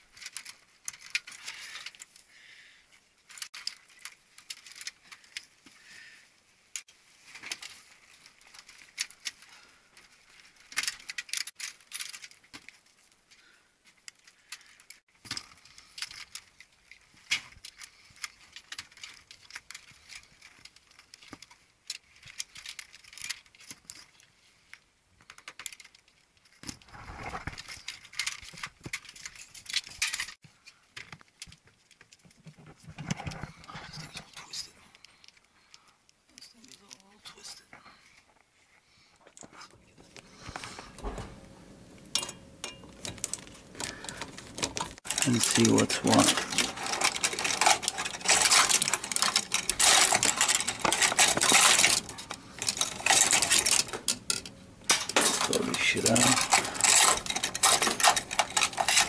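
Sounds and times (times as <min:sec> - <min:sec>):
wires and connectors clicking: 0:00.0 - 0:02.3, 0:03.3 - 0:05.8, 0:06.7 - 0:37.2, 0:39.2 - 0:59.0.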